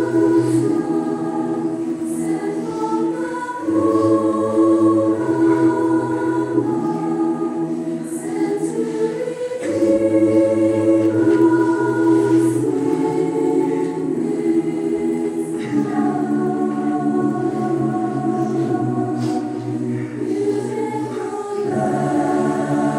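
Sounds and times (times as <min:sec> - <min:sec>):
choir singing sustained chords: 0:00.0 - 0:22.9.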